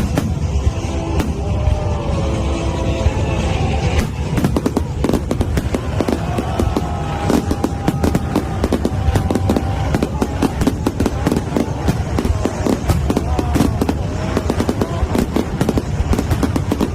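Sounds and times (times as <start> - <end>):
fireworks bangs and crackles: 0.0 - 16.9.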